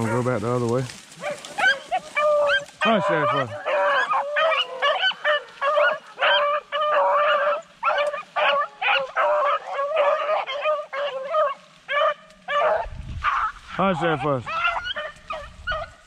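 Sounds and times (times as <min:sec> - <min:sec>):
dog barking: 0:01.2 - 0:16.0.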